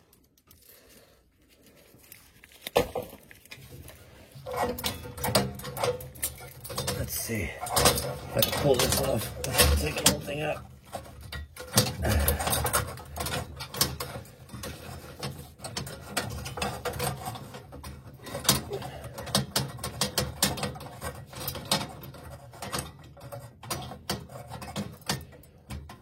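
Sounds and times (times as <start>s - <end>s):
metallic clicks knocks and scrapes: 2.5s - 26.0s.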